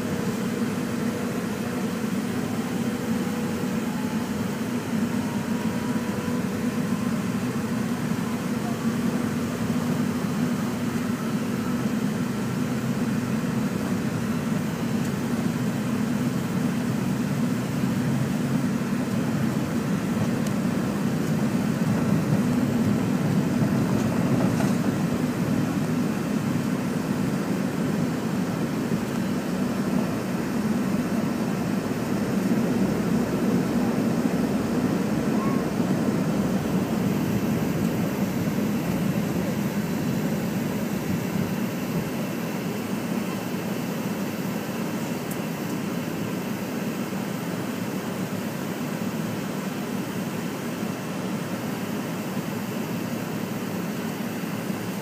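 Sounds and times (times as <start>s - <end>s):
airplane cabin rumble at takeoff: 0.0s - 55.0s.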